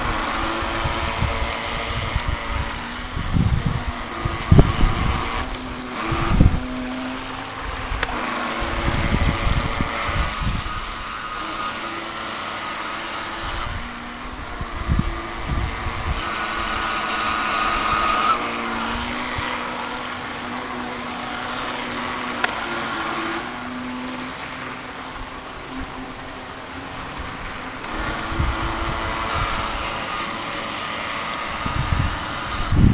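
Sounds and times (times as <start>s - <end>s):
toy boat motor whining: 0.0s - 32.9s.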